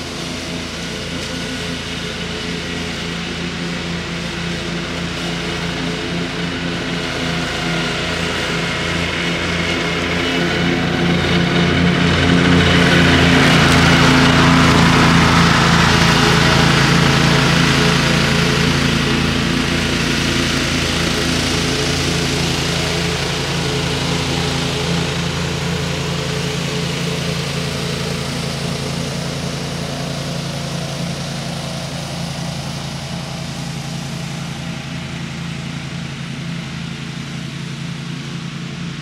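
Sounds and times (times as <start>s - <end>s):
ride-on mower running: 0.0s - 39.0s.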